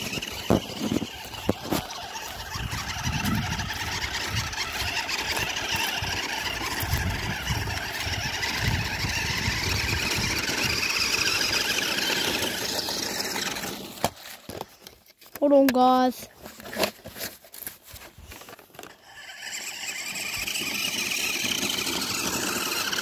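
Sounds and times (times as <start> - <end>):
toy electric motor whining: 0.0 - 14.9, 18.3 - 23.0.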